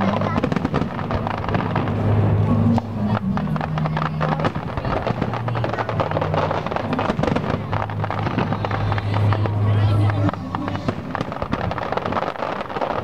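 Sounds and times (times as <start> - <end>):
loud music with low bass notes: 0.0 - 12.6
fireworks bangs and crackling: 0.0 - 13.0.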